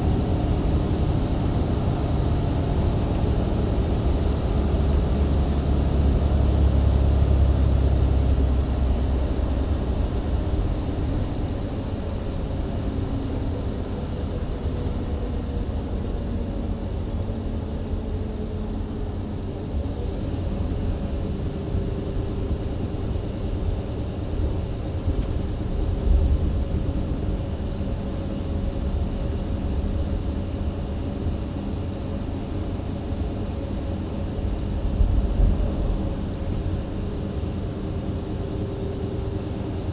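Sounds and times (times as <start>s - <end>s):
bus engine droning: 0.0s - 39.9s
road and tyre rumble: 0.0s - 39.9s.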